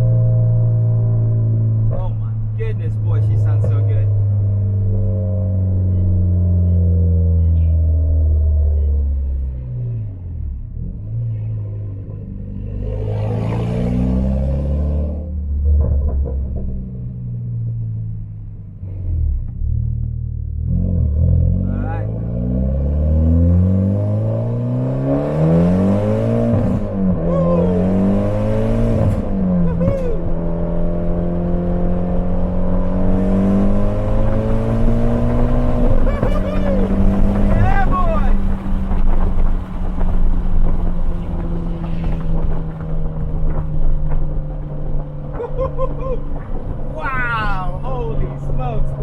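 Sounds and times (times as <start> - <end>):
car engine accelerating hard: 0.0 - 49.0.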